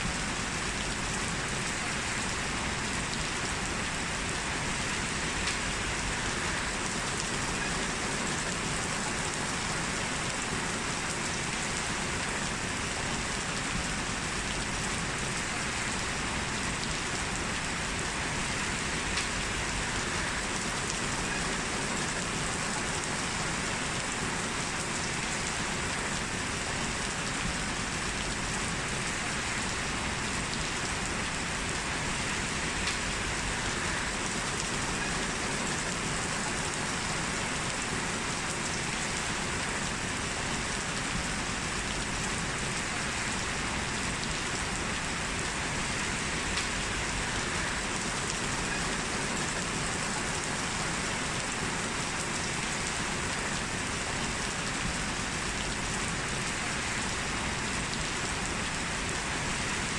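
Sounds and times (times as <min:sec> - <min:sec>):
heavy rain on hard surface: 0:00.0 - 0:59.9.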